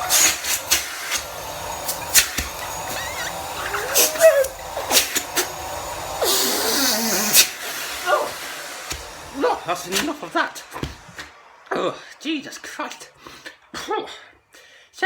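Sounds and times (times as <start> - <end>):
vacuum cleaner running: 0.0 - 13.9.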